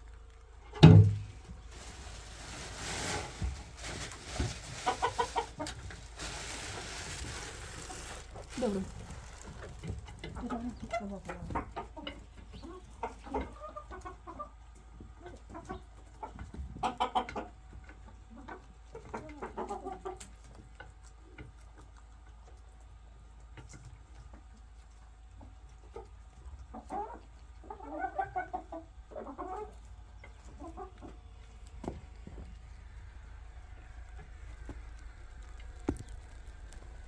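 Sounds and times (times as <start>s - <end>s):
chickens clucking: 1.6s - 37.0s.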